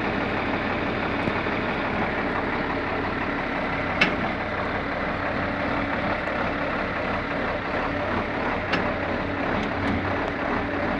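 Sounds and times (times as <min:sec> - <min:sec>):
tractor diesel engine idling: 0:00.0 - 0:10.9.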